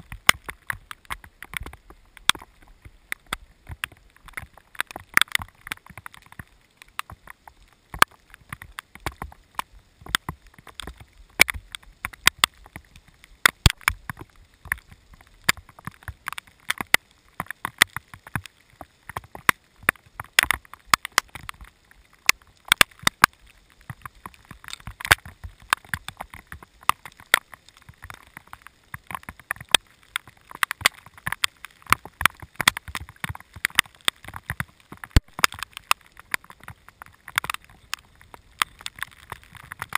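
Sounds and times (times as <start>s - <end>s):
rain hiss: 0.0s - 39.9s
raindrops tapping on camera: 0.0s - 39.9s.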